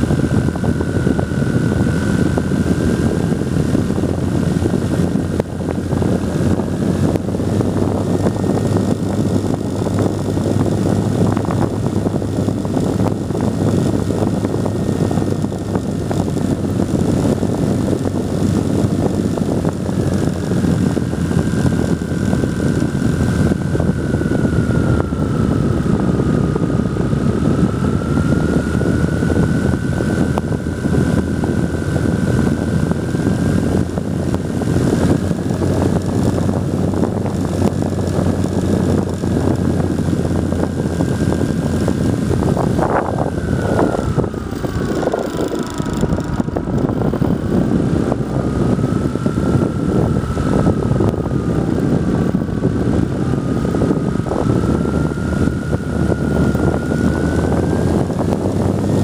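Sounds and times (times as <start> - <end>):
electric motor whine: 0.0 - 59.0
propeller and airflow rush: 0.0 - 59.0.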